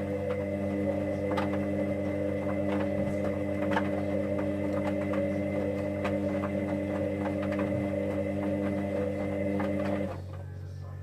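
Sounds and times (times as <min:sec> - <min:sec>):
washing machine motor whining hum: 0:00.0 - 0:11.0.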